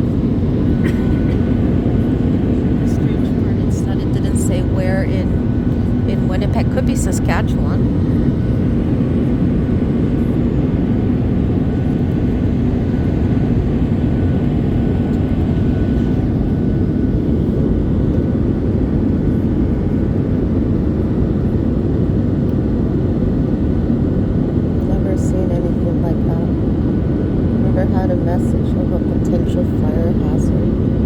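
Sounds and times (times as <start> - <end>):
airliner engine and airflow drone: 0.0 - 31.0.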